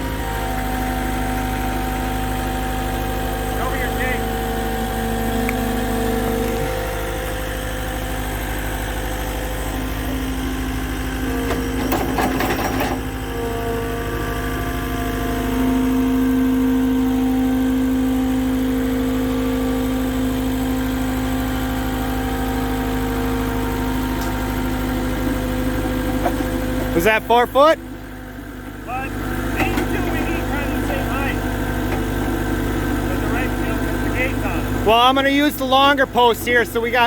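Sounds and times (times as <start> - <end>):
machine engine whining: 0.0 - 37.0.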